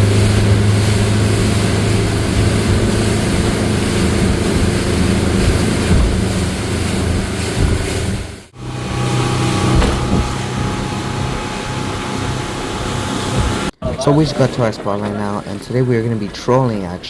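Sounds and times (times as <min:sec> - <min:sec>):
motorboat engine humming: 0:00.0 - 0:17.0
wind and water rushing: 0:00.0 - 0:17.0.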